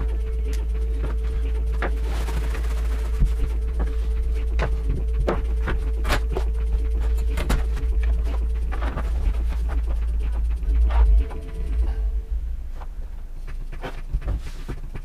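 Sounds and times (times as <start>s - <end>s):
low hum: 0.0s - 15.0s
sheets and boards on a worktable: 1.0s - 11.1s, 12.8s - 15.0s.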